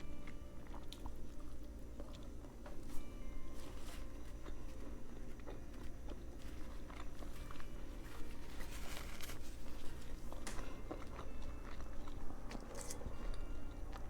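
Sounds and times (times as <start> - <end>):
person chewing a sandwich: 0.0 - 14.0.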